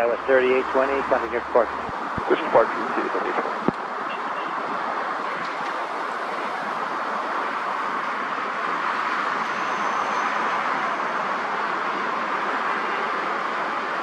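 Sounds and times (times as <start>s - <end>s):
jet engine noise: 0.0s - 12.4s.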